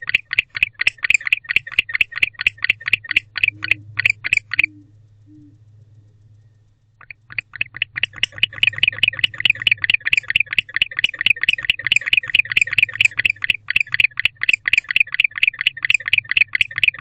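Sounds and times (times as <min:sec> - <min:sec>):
barn owl chirping: 0:00.0 - 0:17.0.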